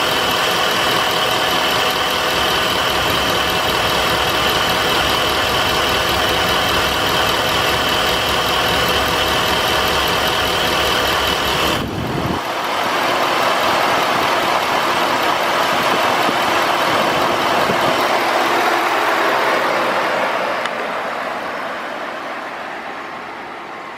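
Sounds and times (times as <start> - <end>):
pickup engine idling: 0.0 - 22.4
steady rushing noise: 1.6 - 23.9.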